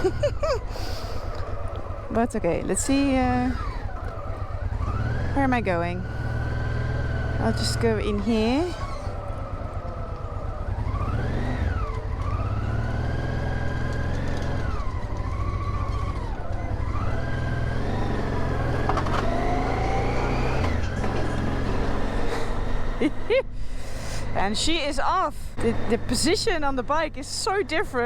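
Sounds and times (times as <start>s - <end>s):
motorcycle engine revving: 0.0s - 23.5s, 24.2s - 28.0s.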